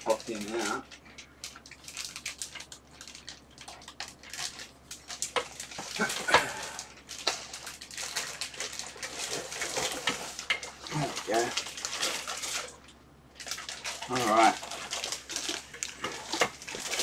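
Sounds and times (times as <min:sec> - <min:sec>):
cardboard packaging rustling: 0:00.0 - 0:17.0
plastic bag crinkling: 0:00.0 - 0:17.0.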